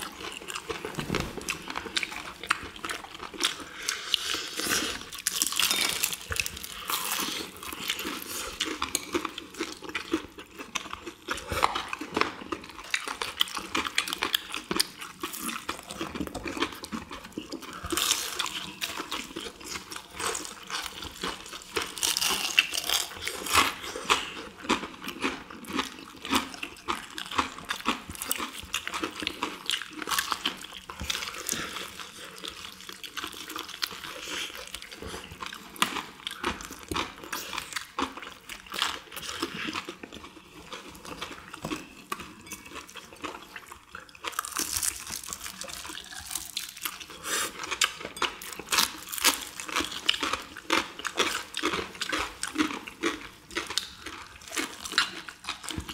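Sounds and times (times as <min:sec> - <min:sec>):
crunching fried chicken: 0:00.0 - 0:55.9.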